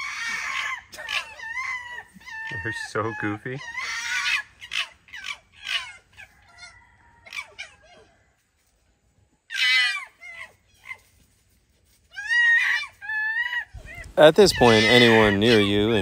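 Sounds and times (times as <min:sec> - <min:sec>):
foxes screaming: 0:00.0 - 0:08.2, 0:09.5 - 0:11.1, 0:12.1 - 0:16.0.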